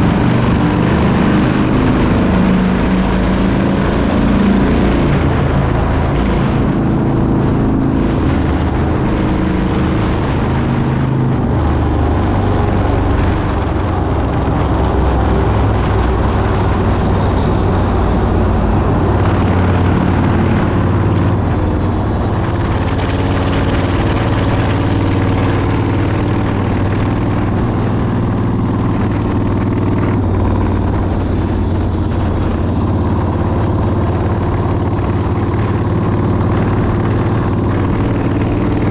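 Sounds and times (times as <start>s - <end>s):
motorcycle engine drone: 0.0s - 38.9s
wind noise on microphone: 0.0s - 38.9s.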